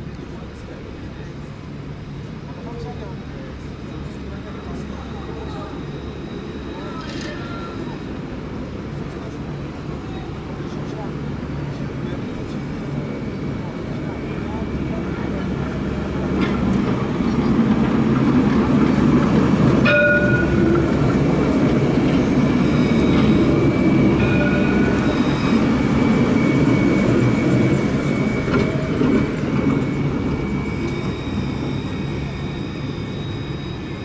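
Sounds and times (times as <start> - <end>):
tram wheels rumbling on rails: 0.0 - 34.0.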